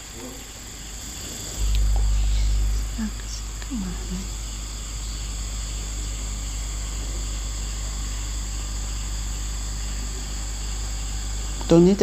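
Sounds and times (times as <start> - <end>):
insects chirring: 0.0 - 12.0
constant low rumble: 1.0 - 12.0.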